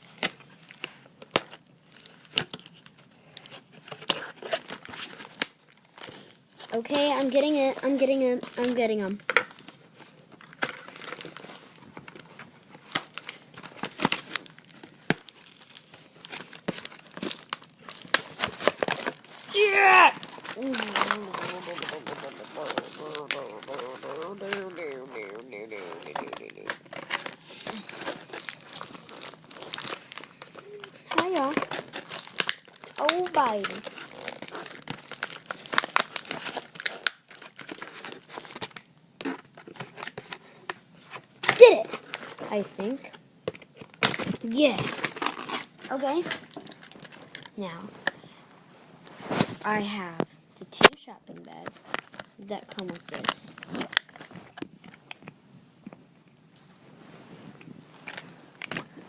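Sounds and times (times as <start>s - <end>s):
plastic packaging crinkling: 0.0s - 48.1s, 50.7s - 55.3s, 57.6s - 59.0s.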